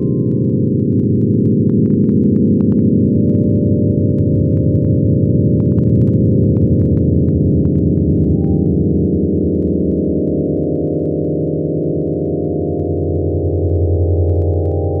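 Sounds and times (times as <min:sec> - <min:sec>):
low synthetic drone: 0:00.0 - 0:15.0.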